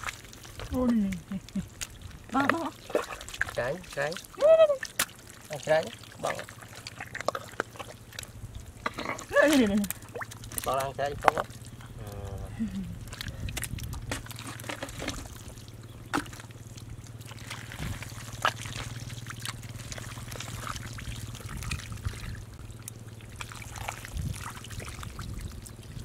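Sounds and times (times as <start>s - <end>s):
hands squelching through wet mud: 0.0s - 26.0s
small splashes and drips: 0.0s - 26.0s.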